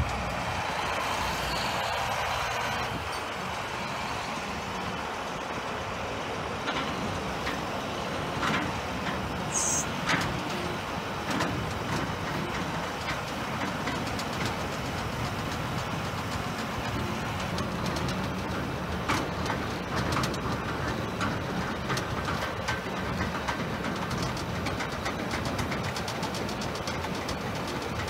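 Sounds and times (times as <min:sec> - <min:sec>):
heavy diesel engines running: 0:00.0 - 0:28.0.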